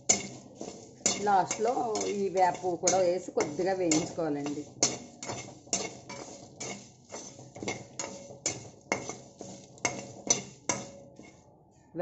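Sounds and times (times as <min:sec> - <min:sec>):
steel spatula scraping metal pan: 0:00.0 - 0:11.4.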